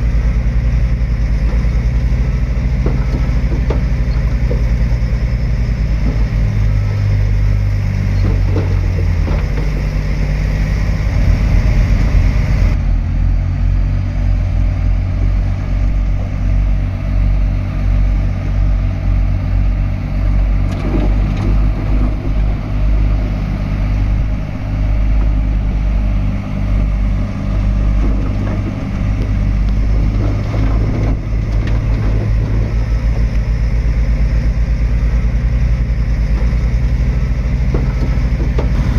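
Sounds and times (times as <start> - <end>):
heavy diesel machinery engine drone: 0.0 - 38.9.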